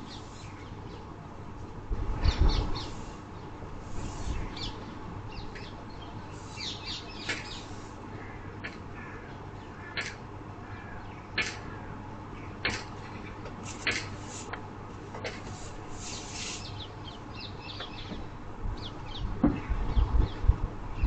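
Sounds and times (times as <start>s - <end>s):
birds calling harshly: 0.0s - 1.1s, 2.2s - 14.6s, 15.2s - 20.4s
steady low hum: 0.0s - 21.0s.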